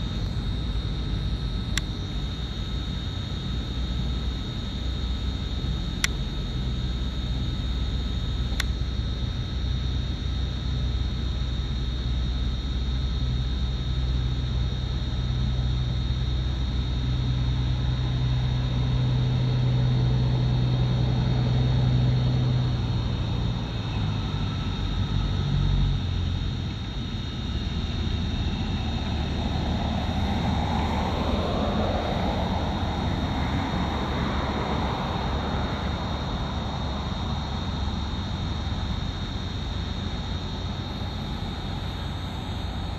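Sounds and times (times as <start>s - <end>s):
airliner engine drone in cabin: 0.0s - 42.9s
thin high whine: 0.0s - 42.9s.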